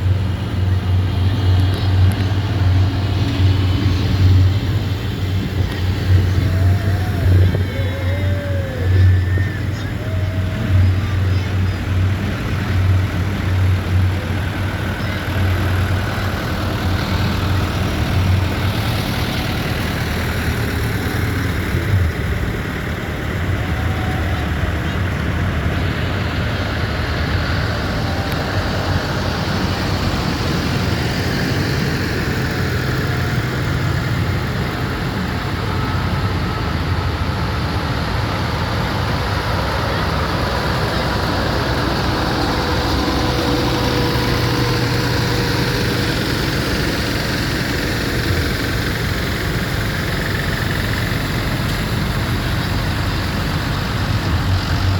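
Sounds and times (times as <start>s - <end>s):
tractor engines droning: 0.0s - 54.9s.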